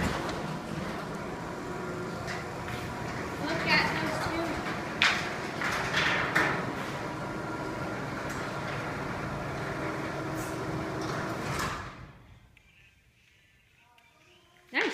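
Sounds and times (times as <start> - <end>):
garage door clanks: 0.0 - 12.2
garage door openers running: 0.0 - 12.2.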